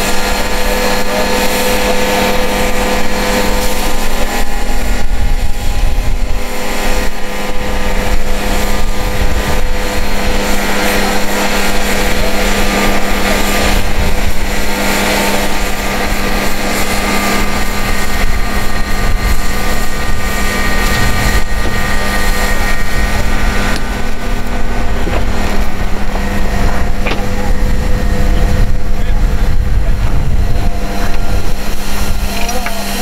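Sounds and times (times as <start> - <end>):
large engine droning: 0.0 - 33.0
wind noise on microphone: 0.0 - 33.0.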